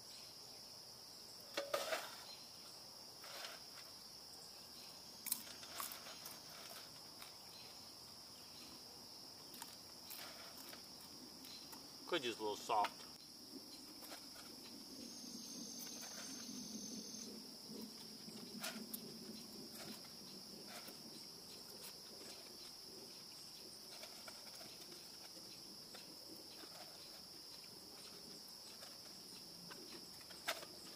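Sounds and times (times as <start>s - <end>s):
crickets trilling: 0.0s - 30.9s.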